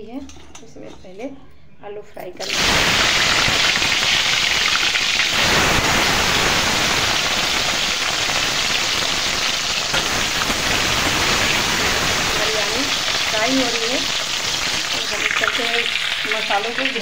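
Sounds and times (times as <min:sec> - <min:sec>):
potatoes sizzling in oil: 0:02.4 - 0:17.0.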